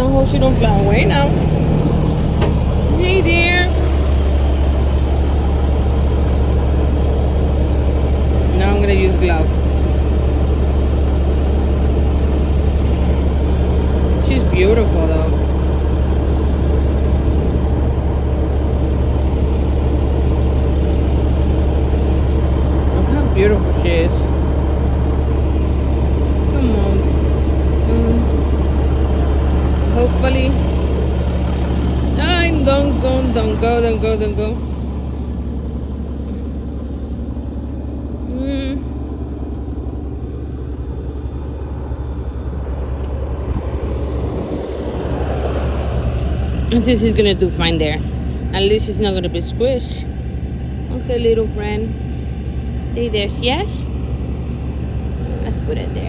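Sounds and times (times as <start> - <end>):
low background rumble: 0.0 - 56.0
vehicle engine idling: 0.0 - 56.0.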